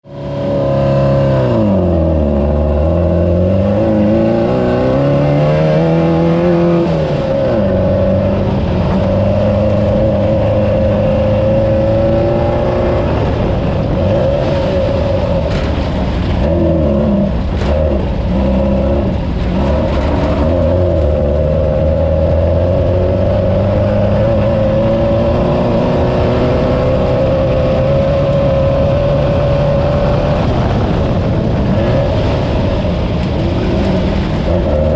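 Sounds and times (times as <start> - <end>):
buggy engine revving: 0.0 - 34.9.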